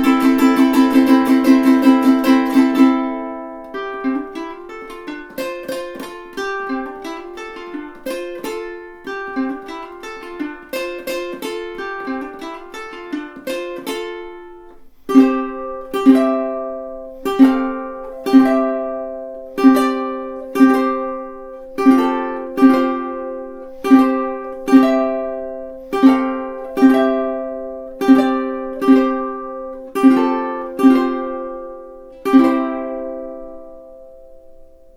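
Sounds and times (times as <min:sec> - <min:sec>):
ukulele chords strummed: 0:00.0 - 0:34.9
ukulele notes picked: 0:00.0 - 0:34.9.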